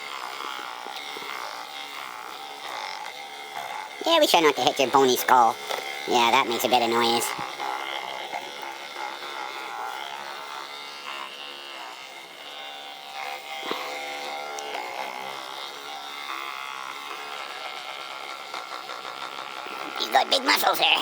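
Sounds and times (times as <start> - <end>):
percussive massager buzzing: 0.0 - 21.0.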